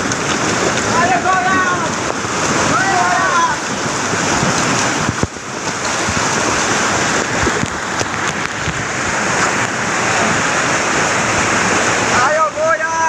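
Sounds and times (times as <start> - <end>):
river rapids roaring: 0.0 - 13.0.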